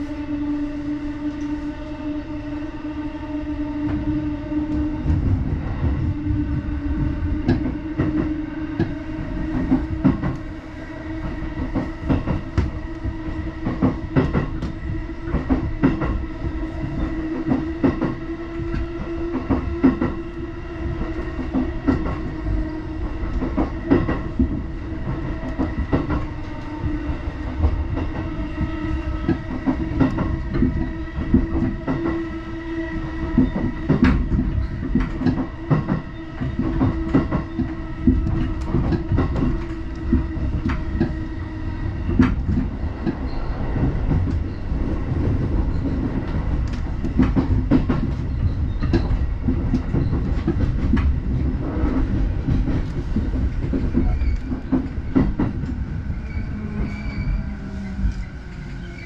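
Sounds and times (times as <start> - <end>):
train car rumble: 0.0 - 59.0.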